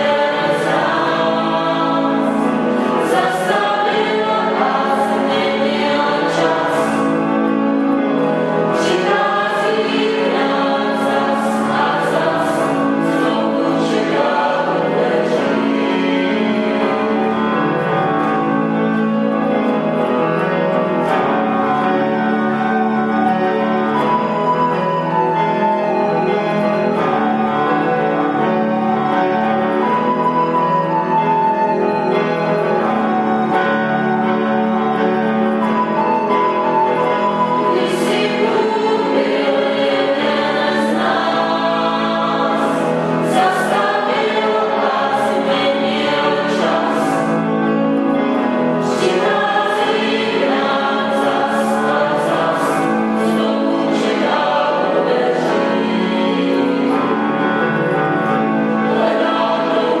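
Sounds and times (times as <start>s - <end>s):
choir singing: 0.0s - 60.0s.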